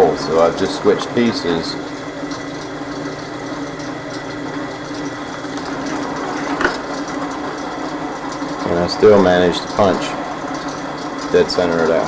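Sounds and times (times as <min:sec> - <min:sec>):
drill press drilling: 0:00.0 - 0:12.0.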